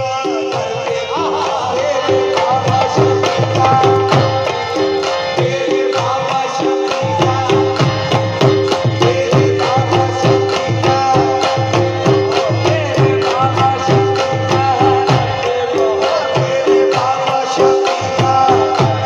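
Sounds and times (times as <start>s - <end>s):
held harmonium tone: 0.0s - 19.0s
people singing: 0.0s - 19.0s
tabla playing steady rhythm: 0.0s - 19.0s.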